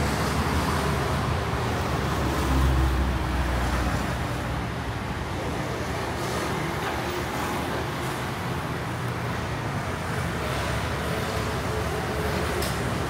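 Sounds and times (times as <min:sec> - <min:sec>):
cars passing: 0:00.0 - 0:13.0
rumble of engines and tyres: 0:00.0 - 0:13.0.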